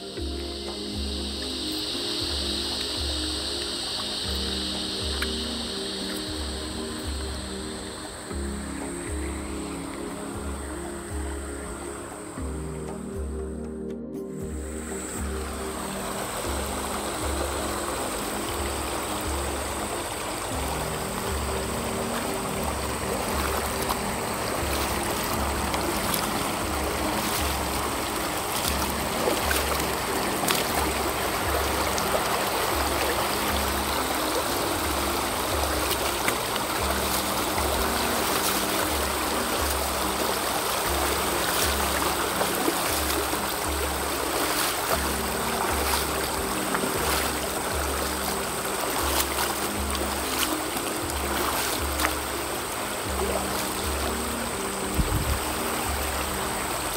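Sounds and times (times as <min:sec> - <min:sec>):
creek running over stones: 0:00.0 - 0:56.9
music with slow low beat: 0:00.0 - 0:56.9.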